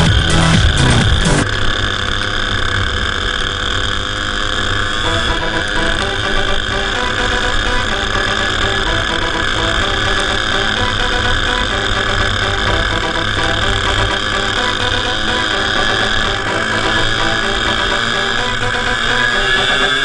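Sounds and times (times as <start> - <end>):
go-kart engine at high revs: 0.0 - 20.0
second kart engine alongside: 0.0 - 20.0.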